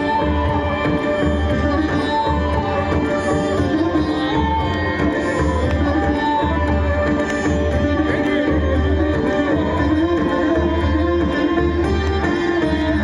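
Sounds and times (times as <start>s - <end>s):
indian classical instrumental music: 0.0s - 13.0s.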